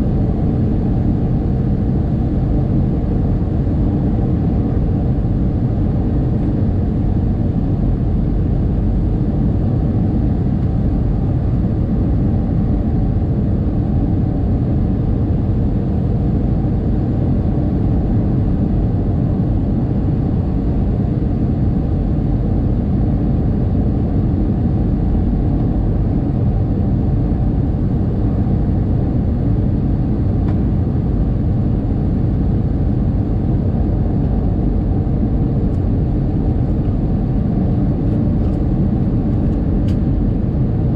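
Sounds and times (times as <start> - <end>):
airliner engines rumbling: 0.0 - 40.9
rushing air in cabin: 0.0 - 40.9.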